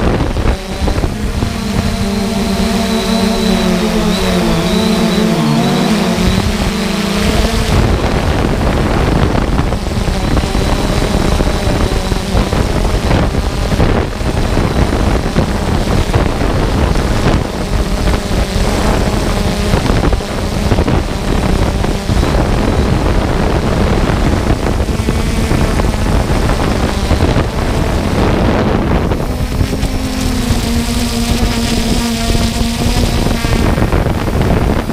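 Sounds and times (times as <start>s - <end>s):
drone motors humming: 0.0s - 34.9s
wind buffeting microphone: 0.0s - 34.9s.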